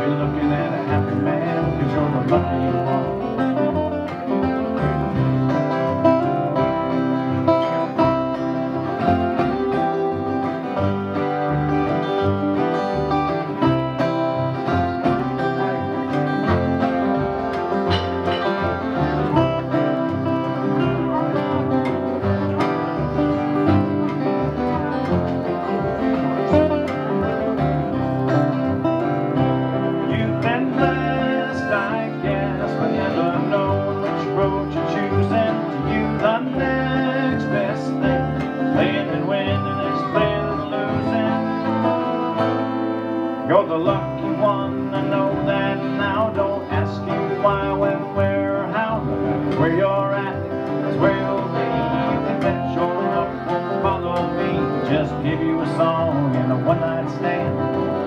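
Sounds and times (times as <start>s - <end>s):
acoustic guitars strumming: 0.0s - 58.0s
lead melody: 0.0s - 58.0s
upright bass plucked: 0.0s - 58.0s.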